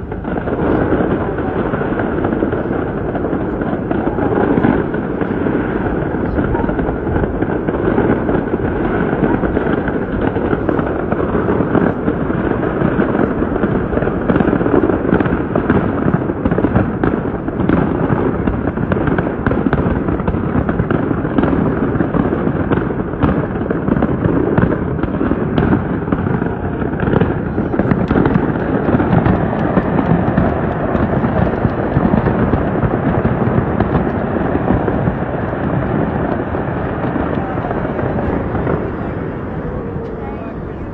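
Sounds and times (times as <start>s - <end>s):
distant fireworks bangs and crackles: 0.0s - 40.9s.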